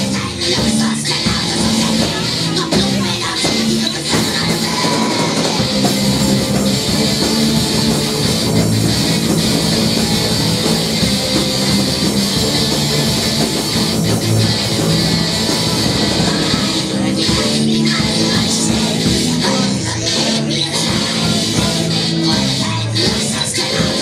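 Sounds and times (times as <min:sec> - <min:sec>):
drum kit: 0:00.0 - 0:24.0
electric guitar: 0:00.0 - 0:24.0
rock band playing live: 0:00.0 - 0:24.0.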